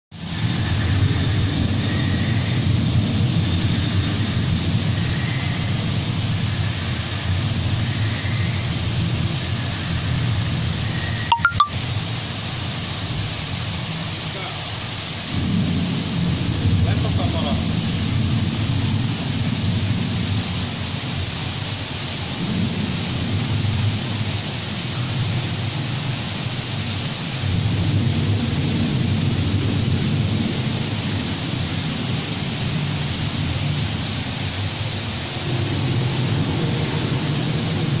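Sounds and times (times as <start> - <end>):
even hiss: 0.2 - 38.0.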